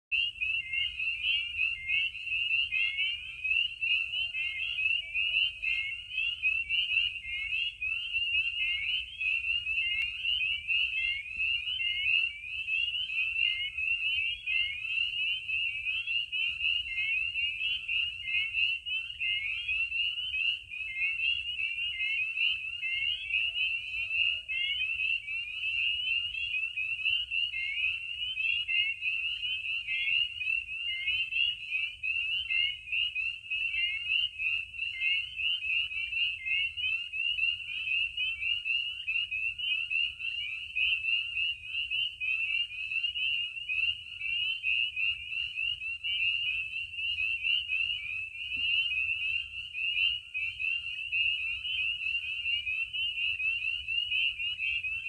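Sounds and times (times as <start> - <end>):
chorus of frogs peeping: 0.1 - 55.0.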